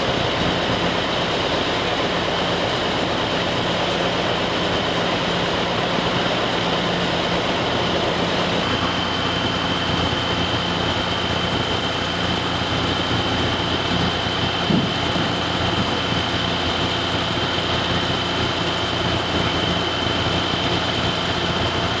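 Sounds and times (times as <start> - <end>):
diesel engines rumbling: 0.0 - 22.0.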